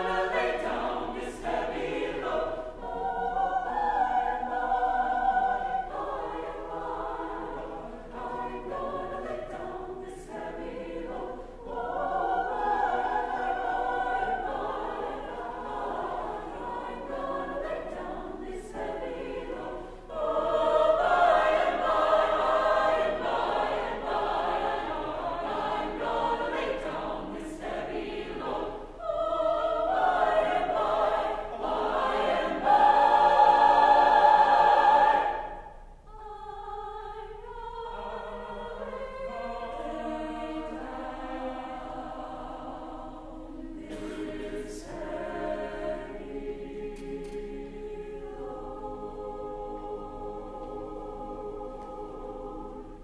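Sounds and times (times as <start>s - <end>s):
choir singing in parts: 0.0s - 53.0s.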